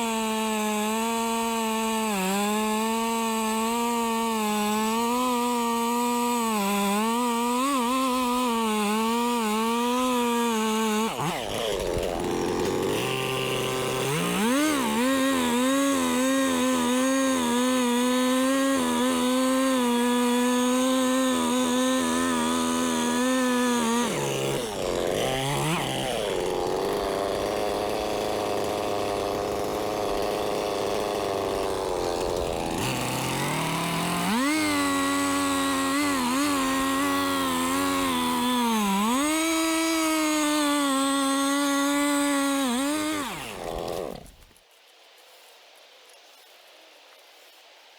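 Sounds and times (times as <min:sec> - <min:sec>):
chainsaw cutting tree trunk: 0:00.0 - 0:44.6.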